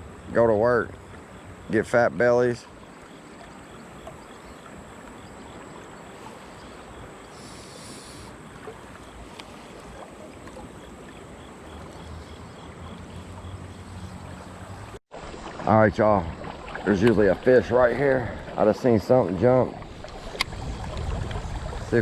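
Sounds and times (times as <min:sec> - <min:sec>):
creek water rippling around wading: 0:00.0 - 0:22.0.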